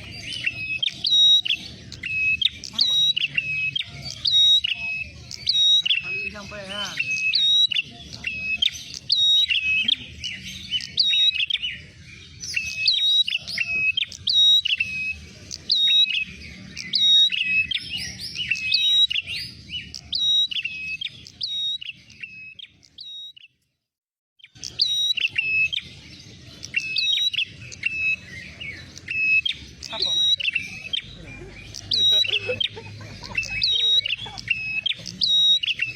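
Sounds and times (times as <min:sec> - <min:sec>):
birds chirping fast: 0:00.0 - 0:23.8, 0:24.4 - 0:35.9.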